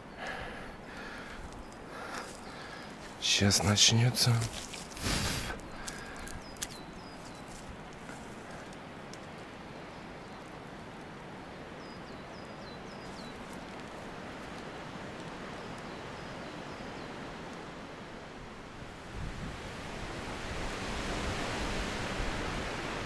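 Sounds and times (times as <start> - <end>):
wind rushing through forest: 0.0 - 23.0.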